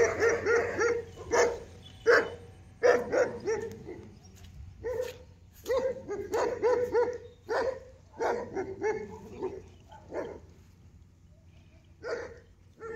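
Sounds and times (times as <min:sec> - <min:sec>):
dog barking: 0:00.0 - 0:04.1, 0:04.8 - 0:10.5, 0:12.0 - 0:12.9.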